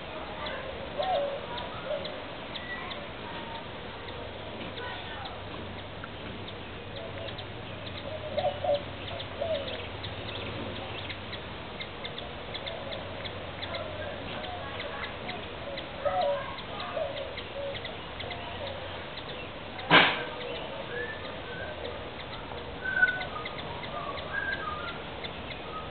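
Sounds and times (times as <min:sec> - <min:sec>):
louder low bird calls: 0:00.3 - 0:25.9.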